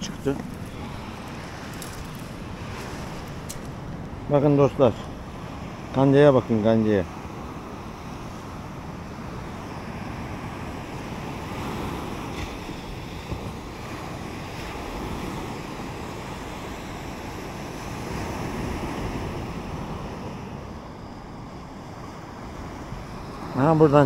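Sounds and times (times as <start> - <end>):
sea waves on shore: 0.0 - 24.0.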